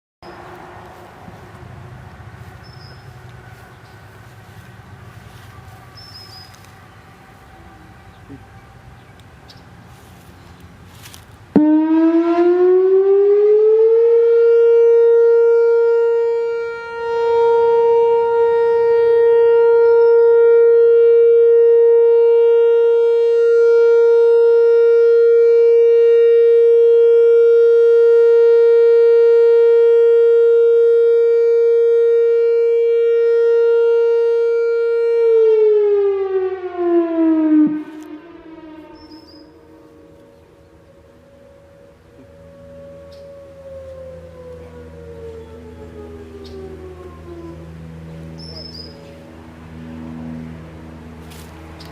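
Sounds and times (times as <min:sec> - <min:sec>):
outdoor warning siren: 0:00.2 - 0:51.9.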